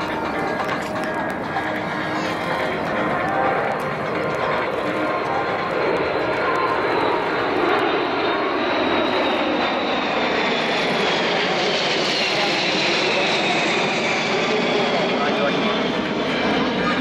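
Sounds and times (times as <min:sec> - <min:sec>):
high jet engine whine: 0:00.0 - 0:17.0
jet aircraft passing overhead: 0:00.0 - 0:17.0.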